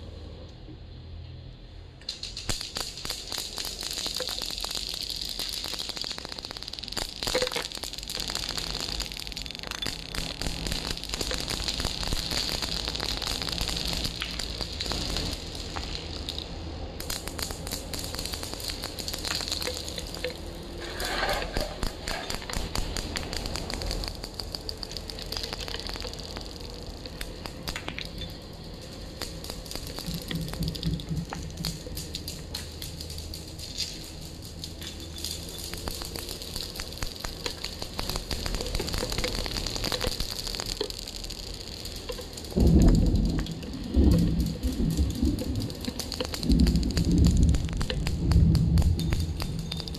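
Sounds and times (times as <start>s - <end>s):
marbles clicking together: 2.0s - 49.9s
marbles rolling on stone floor: 2.0s - 49.9s.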